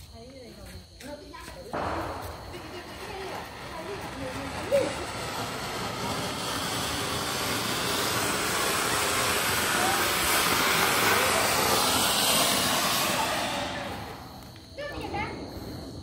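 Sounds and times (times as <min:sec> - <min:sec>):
firework fountain hissing: 0:01.7 - 0:16.0.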